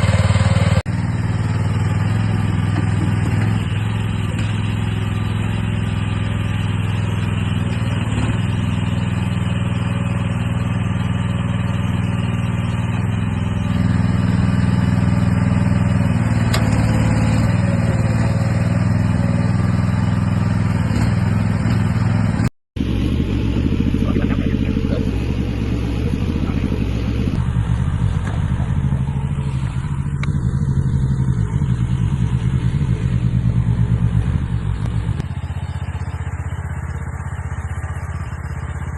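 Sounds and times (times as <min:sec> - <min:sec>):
mini excavator engine running: 0:00.0 - 0:22.2, 0:22.8 - 0:38.9.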